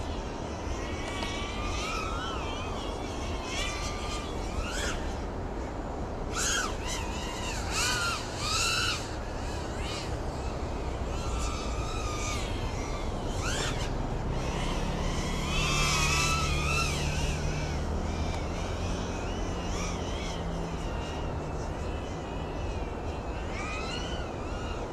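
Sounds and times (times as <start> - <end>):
drone motors whining: 0.0 - 24.9
low steady rumble: 0.0 - 24.9.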